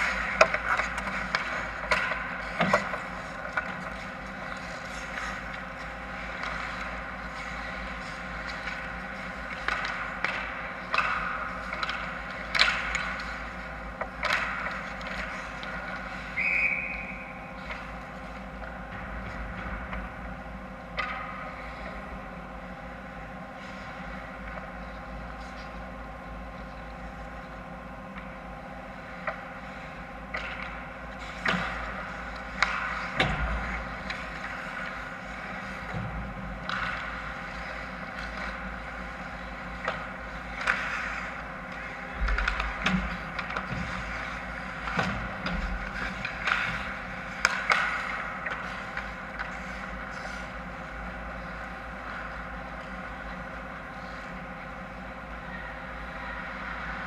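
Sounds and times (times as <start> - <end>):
skates scraping on ice: 0.0 - 20.0, 29.0 - 57.0
hockey sticks clacking on puck: 0.0 - 20.1, 20.9 - 22.0, 30.3 - 55.3
mechanical hum of indoor rink: 0.0 - 57.0.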